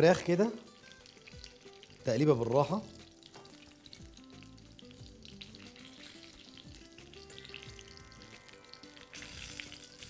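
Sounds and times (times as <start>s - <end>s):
background music: 0.0s - 10.0s
food sizzling in a pan: 0.0s - 10.0s.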